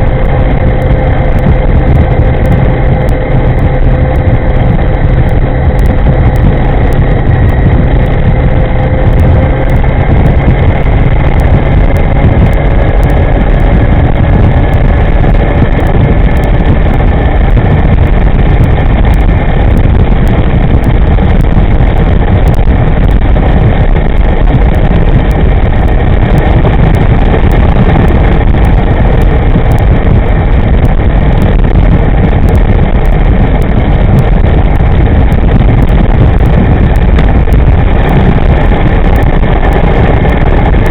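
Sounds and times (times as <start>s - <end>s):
faint whine: 0.0s - 40.9s
wind rumble on microphone: 0.0s - 40.9s.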